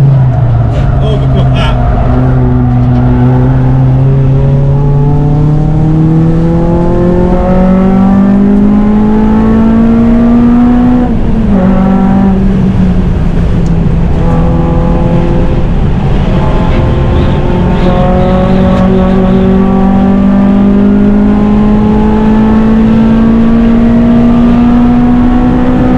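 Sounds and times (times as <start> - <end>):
car engine revving hard: 0.0 - 25.9.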